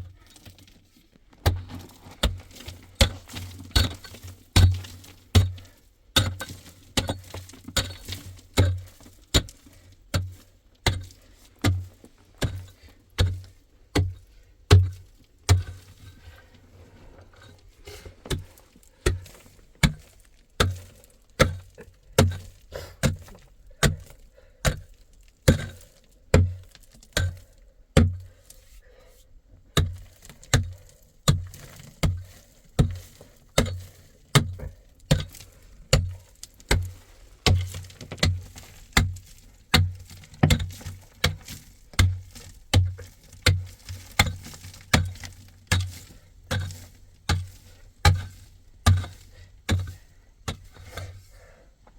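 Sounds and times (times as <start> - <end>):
hand tool striking hard material: 1.4 - 16.2, 17.4 - 28.3, 29.7 - 51.2.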